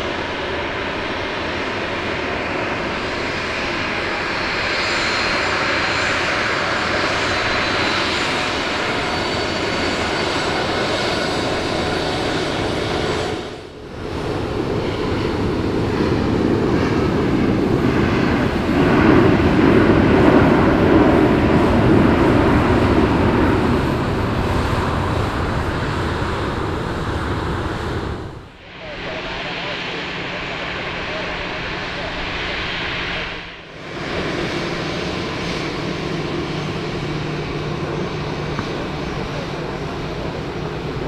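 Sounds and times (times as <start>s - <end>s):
jet airliner engine noise: 0.0s - 41.0s.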